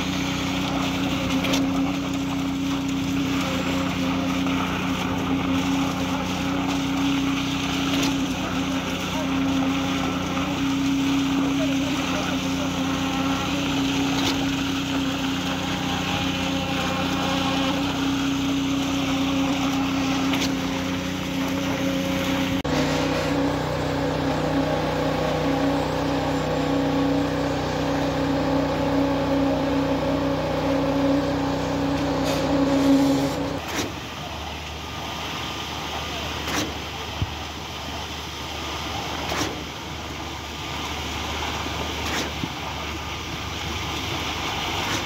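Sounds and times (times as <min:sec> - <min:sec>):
pump truck engine humming: 0:00.0 - 0:45.0.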